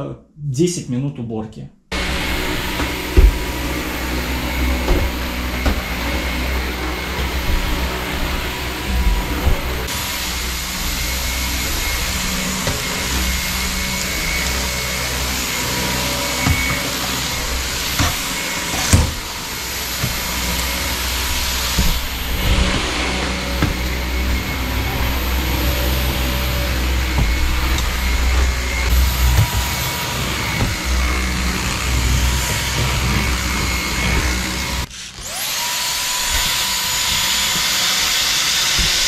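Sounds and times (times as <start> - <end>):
stick vacuum running: 1.9 - 39.0.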